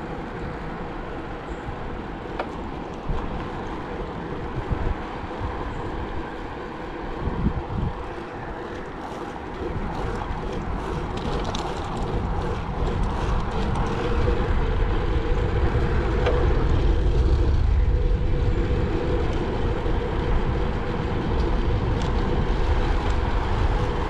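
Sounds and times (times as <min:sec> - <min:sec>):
traffic drone: 0:00.0 - 0:24.0
wind buffeting microphone: 0:00.0 - 0:24.0.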